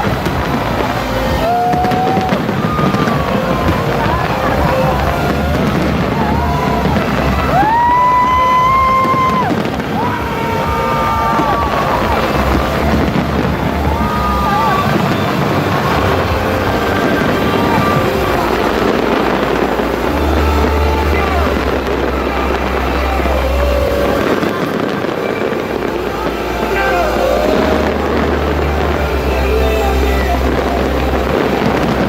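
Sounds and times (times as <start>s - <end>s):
crowd voices: 0.0s - 32.0s
fireworks bursting: 0.0s - 32.0s
music: 0.0s - 32.0s.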